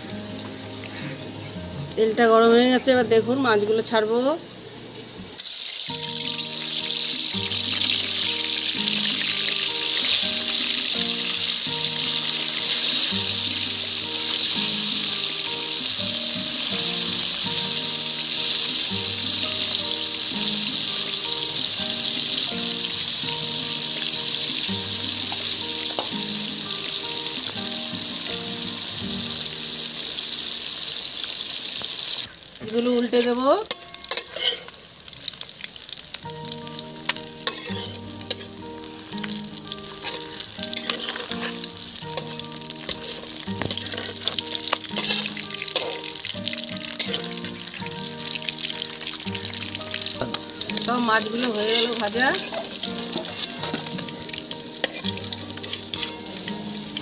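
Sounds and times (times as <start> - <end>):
background music: 0.0 - 30.8, 36.3 - 57.0
fish sizzling in hot oil: 0.0 - 57.0.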